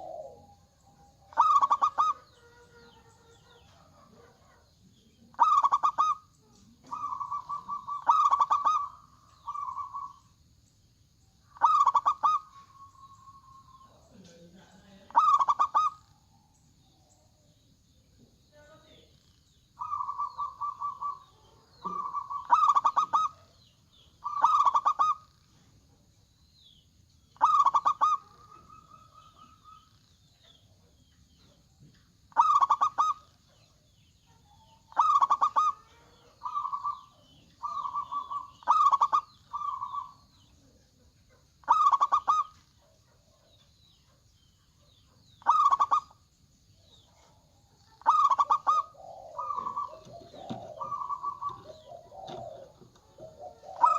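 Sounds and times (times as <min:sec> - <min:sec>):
doves cooing: 0:00.0 - 0:10.5, 0:11.4 - 0:17.2, 0:18.9 - 0:25.7, 0:27.4 - 0:43.5, 0:44.8 - 0:46.2, 0:46.9 - 0:53.9.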